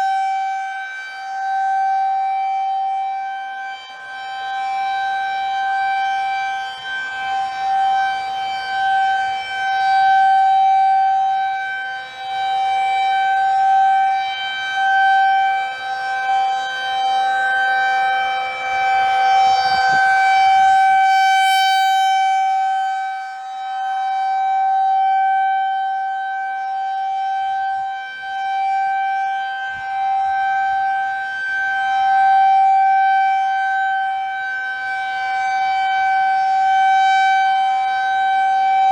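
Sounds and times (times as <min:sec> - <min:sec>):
rotating tornado siren wail: 0:00.0 - 0:38.9.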